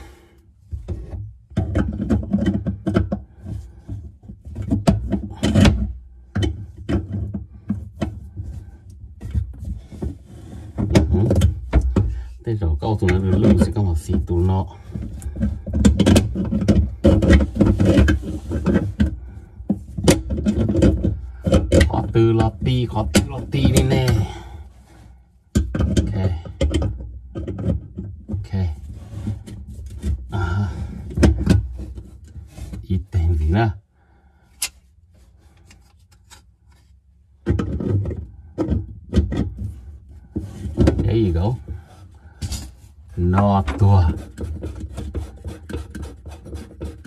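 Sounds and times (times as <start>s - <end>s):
hands knocking and scraping on pipes: 0.0s - 33.7s, 34.6s - 47.0s.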